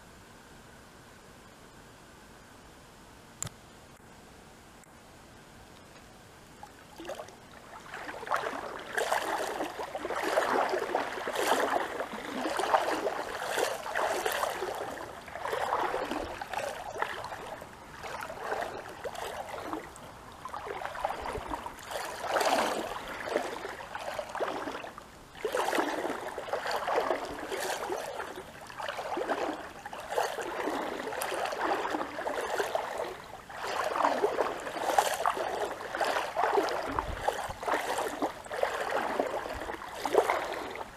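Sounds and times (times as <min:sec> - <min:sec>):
water splashing and gurgling: 0:06.5 - 0:40.9.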